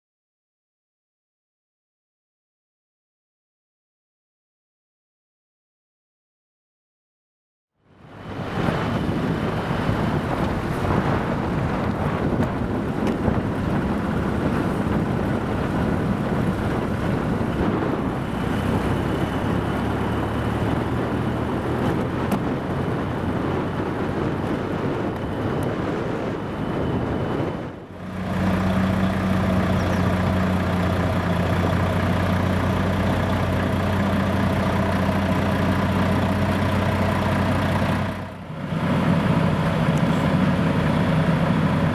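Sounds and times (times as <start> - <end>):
dense rushing noise: 8.0 - 41.9
heavy machinery engine running: 8.0 - 41.9.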